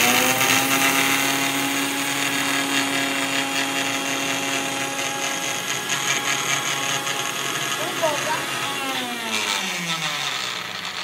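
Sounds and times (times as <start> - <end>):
mixer grinder motor whine: 0.0 - 11.0.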